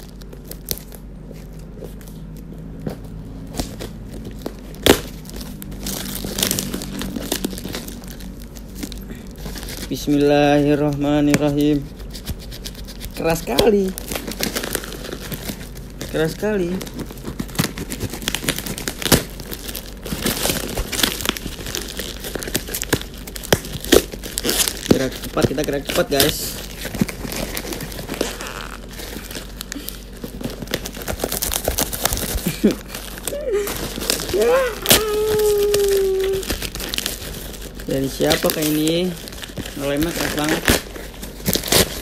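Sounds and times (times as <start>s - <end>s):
paper crinkling and tearing: 0.0s - 42.0s.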